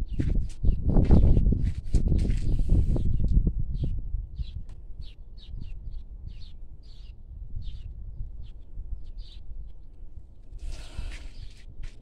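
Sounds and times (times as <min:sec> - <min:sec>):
small birds chirping: 0:00.0 - 0:01.4, 0:02.1 - 0:11.7.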